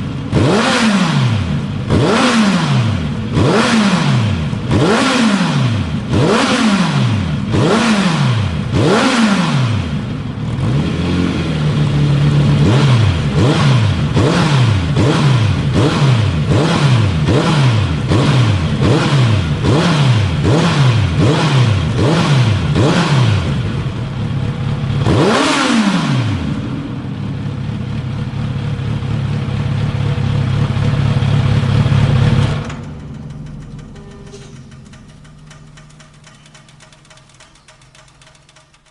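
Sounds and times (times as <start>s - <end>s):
engine idling: 0.0s - 7.7s, 9.8s - 25.4s, 26.1s - 38.9s
motorcycle engine revving: 0.0s - 38.9s.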